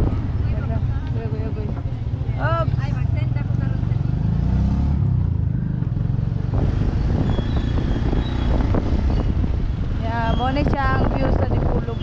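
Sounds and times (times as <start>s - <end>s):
vehicle rumbling along road: 0.0s - 12.0s.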